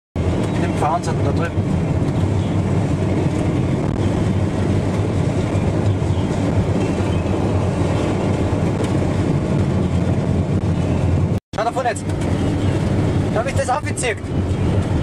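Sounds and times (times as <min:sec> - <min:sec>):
car driving on gravel: 0:00.2 - 0:15.0.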